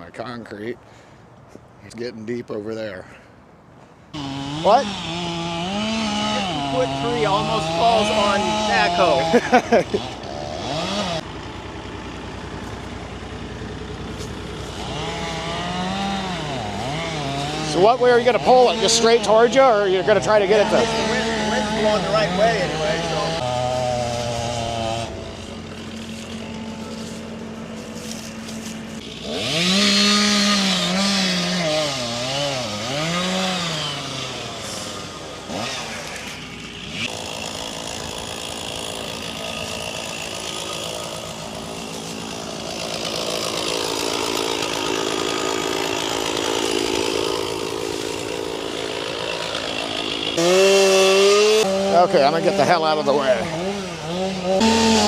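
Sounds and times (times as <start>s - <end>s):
chainsaw revving and cutting: 4.1s - 55.0s.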